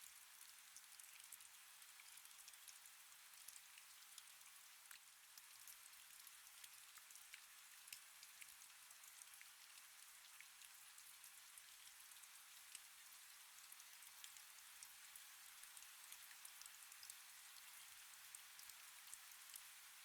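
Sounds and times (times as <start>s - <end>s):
faint steady rain: 0.0s - 20.0s.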